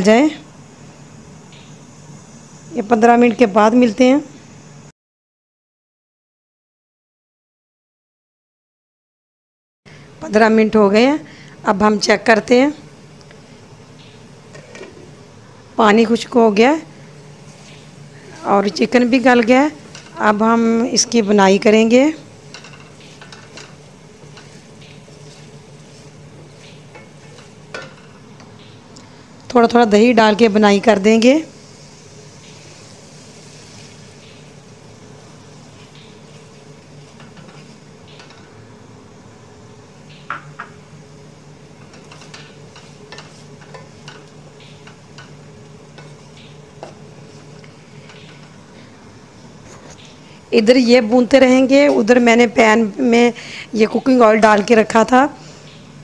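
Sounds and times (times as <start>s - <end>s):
faint sizzle: 0.0s - 4.9s, 9.9s - 56.0s
steady low hum: 9.9s - 56.0s.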